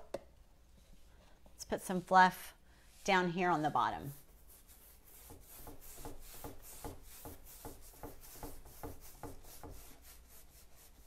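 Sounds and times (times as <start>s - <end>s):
paintbrush swishing on wood: 1.8s - 11.0s.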